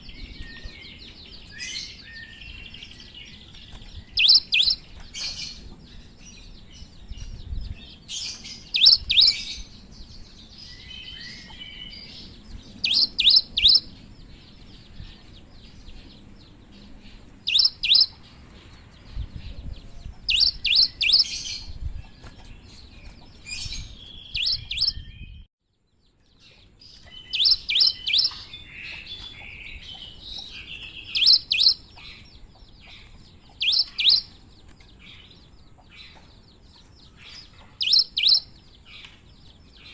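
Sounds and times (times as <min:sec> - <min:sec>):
faint bird twittering: 0:00.0 - 0:25.5, 0:26.1 - 0:39.9.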